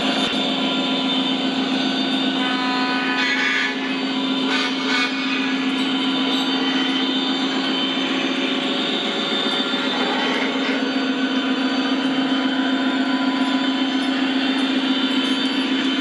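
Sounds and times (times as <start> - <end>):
model diesel engine drone: 0.0 - 16.0
model train rolling on track: 0.0 - 16.0.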